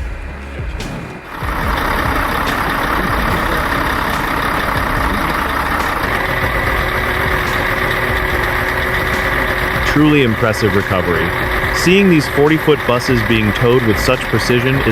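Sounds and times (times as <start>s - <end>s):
faint steady whine: 0.0s - 14.9s
heavy truck engine running: 0.0s - 14.9s
loud rushing noise: 0.0s - 14.9s.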